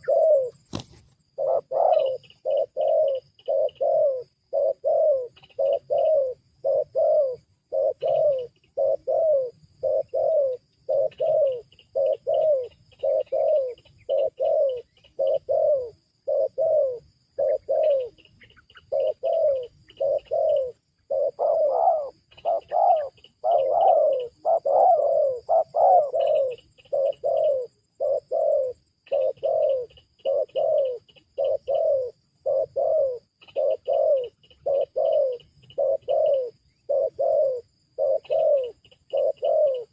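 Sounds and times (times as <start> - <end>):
bird chirping: 0.0 - 39.9
dove cooing: 0.0 - 39.9.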